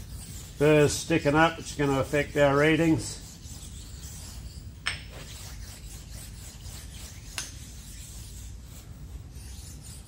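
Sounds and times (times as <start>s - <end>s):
stone rubbing on metal: 0.0s - 10.0s.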